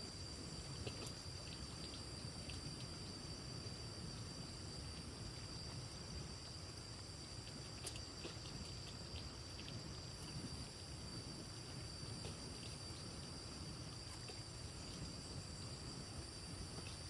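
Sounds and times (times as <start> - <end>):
constant high-pitched tone: 0.0 - 17.0.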